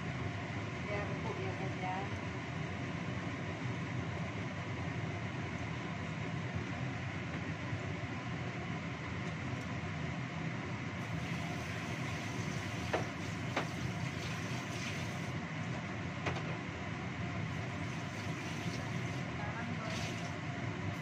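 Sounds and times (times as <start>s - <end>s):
gas stove burner rumbling: 0.0s - 21.0s.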